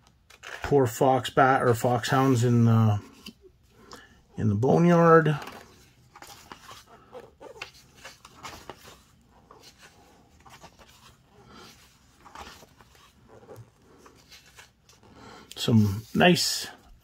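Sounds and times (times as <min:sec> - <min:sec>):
book pages turning: 0:00.0 - 0:17.0.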